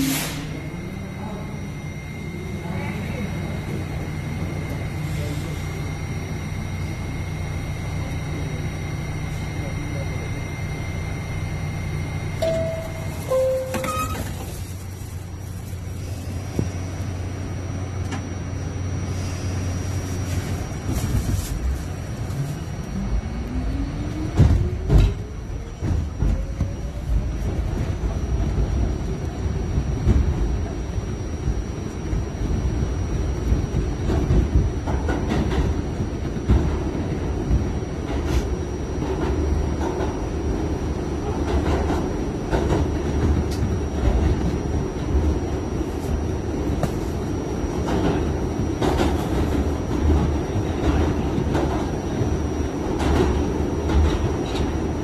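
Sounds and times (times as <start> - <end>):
subway traction motors whining: 0.0 - 55.0.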